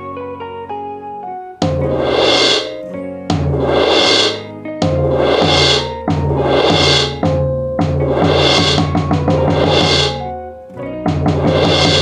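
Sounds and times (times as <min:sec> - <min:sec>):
drum kit beat: 0:01.6 - 0:10.4, 0:11.0 - 0:12.0
sustained bass and synth tones: 0:01.6 - 0:10.5, 0:11.2 - 0:12.0.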